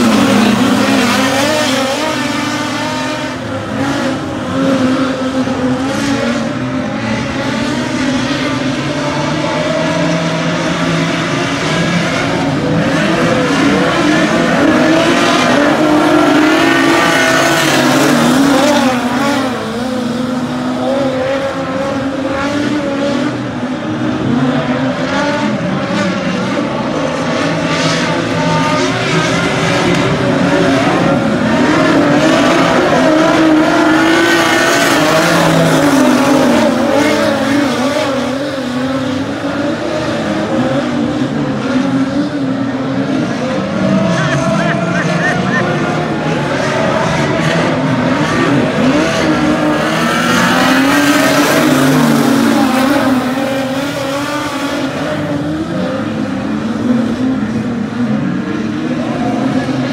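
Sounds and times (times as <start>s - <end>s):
race car engines at high revs: 0.0s - 59.9s.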